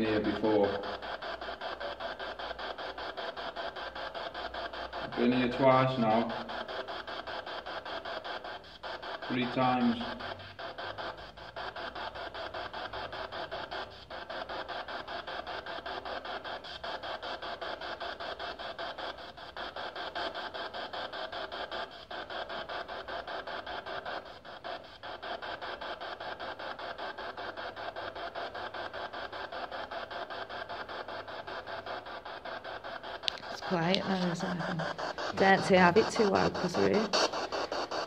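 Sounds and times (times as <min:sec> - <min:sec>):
pulsing radio static: 0:00.0 - 0:38.0.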